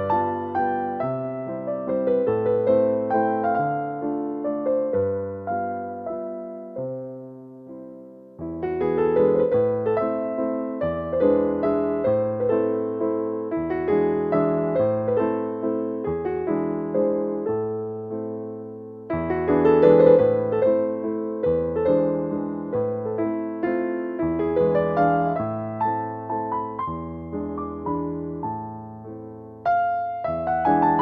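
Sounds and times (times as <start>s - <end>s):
calm piano music: 0.0s - 31.0s.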